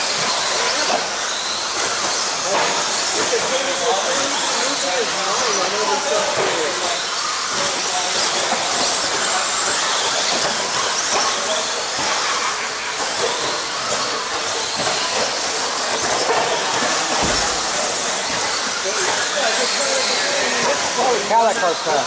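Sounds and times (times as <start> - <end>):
rc truck motors hissing: 0.0 - 22.0.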